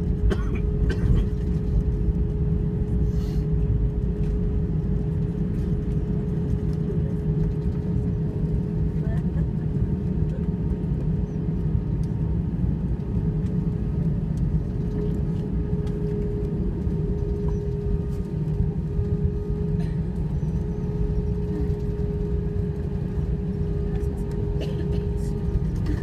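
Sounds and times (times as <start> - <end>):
airplane engine and wheels rumbling: 0.0 - 26.0
constant cabin hum: 0.0 - 26.0.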